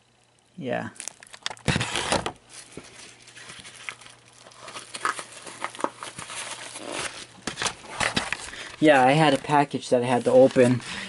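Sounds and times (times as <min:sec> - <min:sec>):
plastic packaging crinkling: 0:00.9 - 0:11.0.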